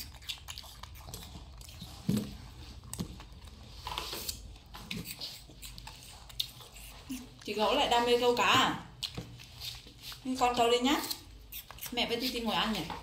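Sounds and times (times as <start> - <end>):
monkey chewing apple: 0.0 - 12.9.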